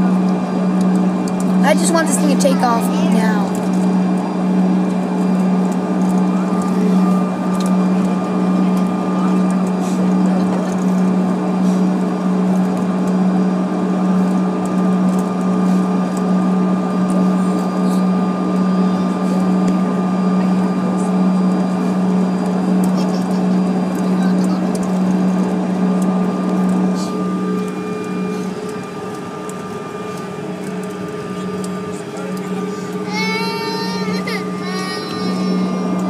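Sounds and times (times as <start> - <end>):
high engine whine: 0.0 - 36.0
jet engines droning: 0.0 - 36.0.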